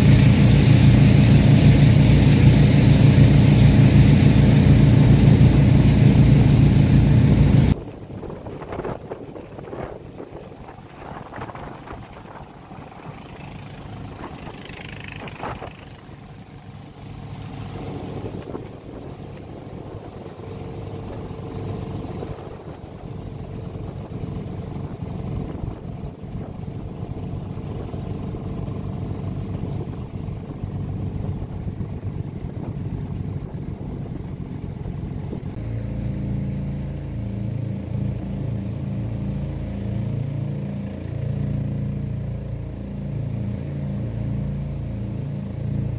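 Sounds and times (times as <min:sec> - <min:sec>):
motorboat engine running: 0:00.0 - 0:45.9.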